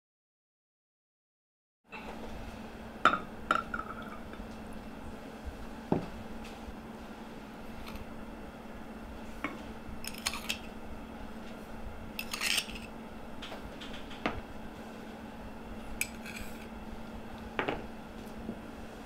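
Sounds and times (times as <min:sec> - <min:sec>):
faint steady hum: 0:01.9 - 0:19.0.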